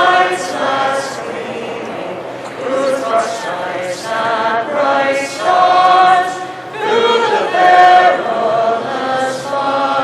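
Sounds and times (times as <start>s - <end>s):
voices singing an anthem together: 0.0s - 10.0s.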